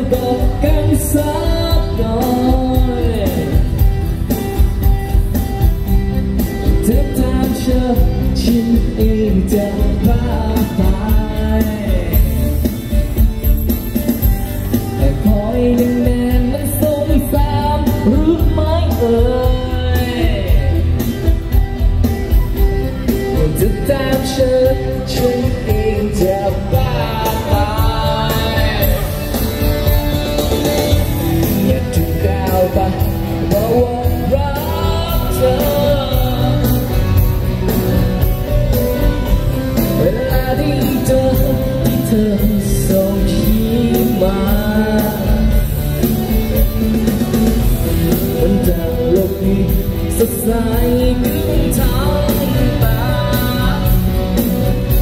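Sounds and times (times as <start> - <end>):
man singing into microphone: 0.0 - 5.0, 6.4 - 13.6, 14.7 - 21.4, 23.1 - 38.1, 38.7 - 55.0
acoustic guitar: 0.0 - 55.0.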